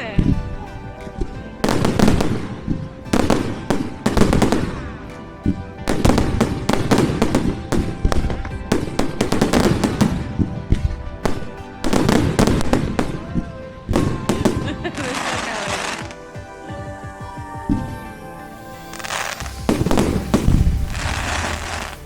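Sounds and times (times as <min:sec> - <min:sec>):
faint music: 0:00.0 - 0:22.0
crackling firework bursts: 0:01.6 - 0:16.2, 0:18.8 - 0:22.0.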